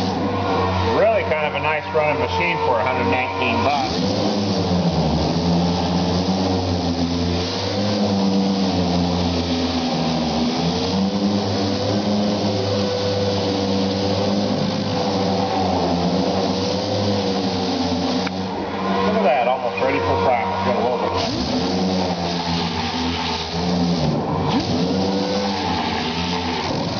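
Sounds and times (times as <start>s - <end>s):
orbital sander running: 0.0s - 26.9s.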